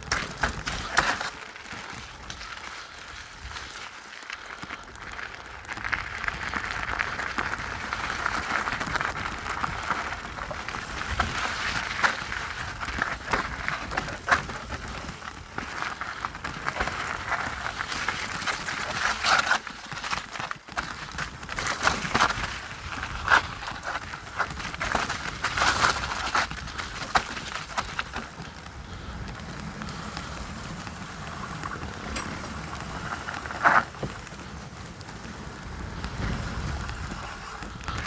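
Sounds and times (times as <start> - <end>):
bike rattling: 0.0 - 38.0
tyres crackling over loose stone: 0.0 - 38.0.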